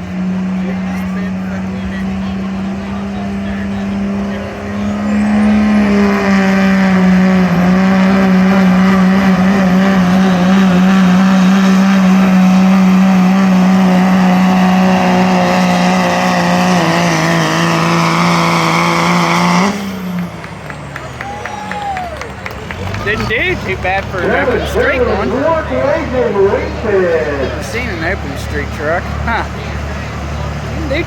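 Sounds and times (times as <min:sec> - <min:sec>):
diesel truck engine at full throttle: 0:00.0 - 0:31.0.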